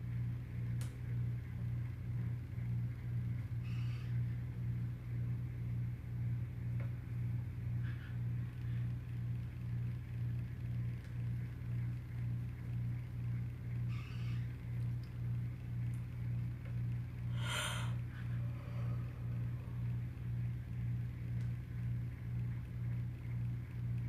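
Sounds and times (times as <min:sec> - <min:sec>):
pulsing low motor hum: 0:00.0 - 0:24.0.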